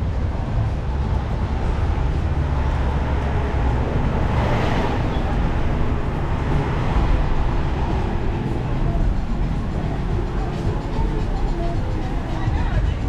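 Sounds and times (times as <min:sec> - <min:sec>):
traffic rumble: 0:00.0 - 0:13.0
vehicle passing close by: 0:00.1 - 0:11.1.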